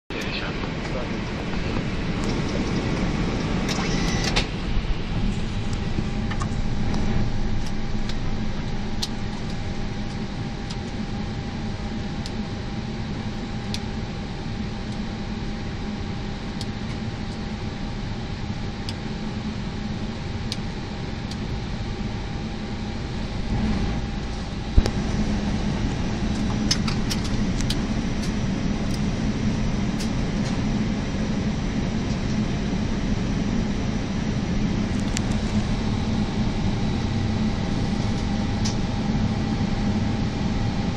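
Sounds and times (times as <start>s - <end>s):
cockpit ventilation hum: 0.1s - 40.9s.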